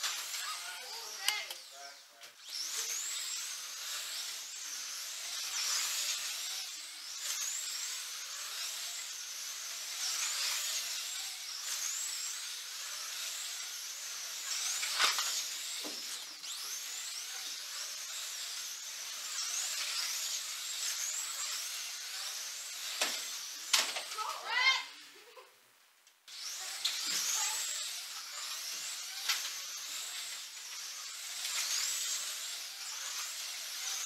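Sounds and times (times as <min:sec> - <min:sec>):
slot car motors whining: 0:00.0 - 0:25.3, 0:26.3 - 0:34.0.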